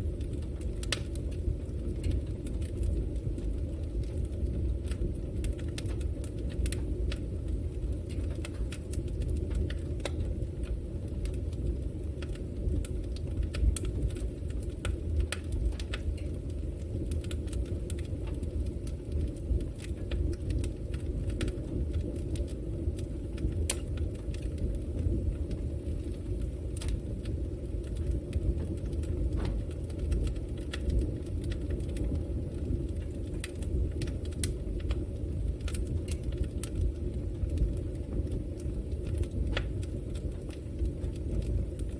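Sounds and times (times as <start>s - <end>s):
fire crackles and pops: 0.0s - 41.9s
fire flames rumbling: 0.0s - 41.9s.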